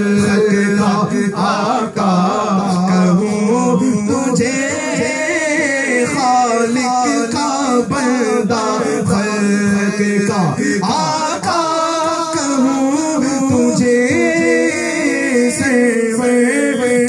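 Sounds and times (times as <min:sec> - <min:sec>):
men singing devotional song: 0:00.0 - 0:17.0.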